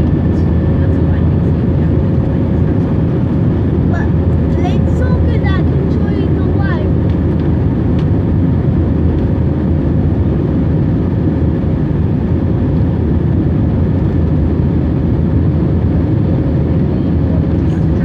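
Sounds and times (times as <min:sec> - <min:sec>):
constant hum tone: 0:00.0 - 0:18.0
jet engines rumbling: 0:00.0 - 0:18.0.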